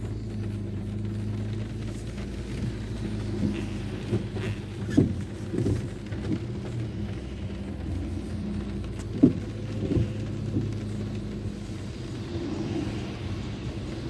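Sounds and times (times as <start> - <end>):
car engine hum: 0.0 - 14.0
tyre noise on wet road: 0.0 - 14.0.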